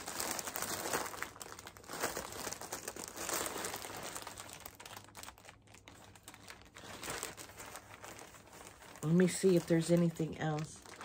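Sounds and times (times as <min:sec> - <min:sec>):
tissue paper crinkling: 0:00.0 - 0:11.0.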